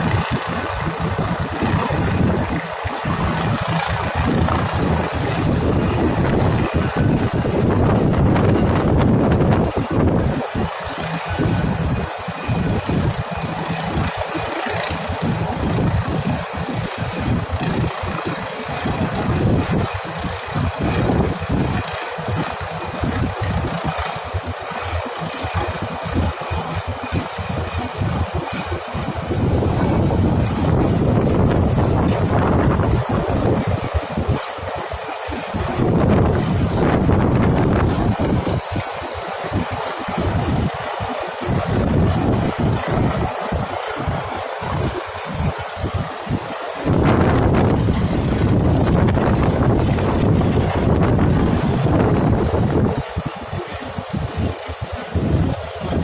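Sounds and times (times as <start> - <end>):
helicopter rotor and engine: 0.0 - 56.0
wind gusts on microphone: 0.0 - 56.0.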